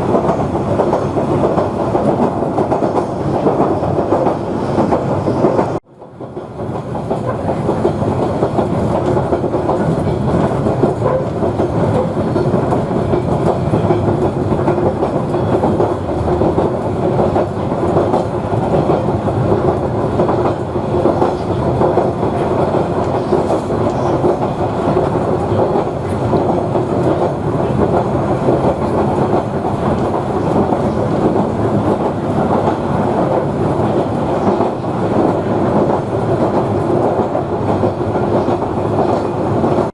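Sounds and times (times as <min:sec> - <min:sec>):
railcar running on track: 0:00.0 - 0:39.9.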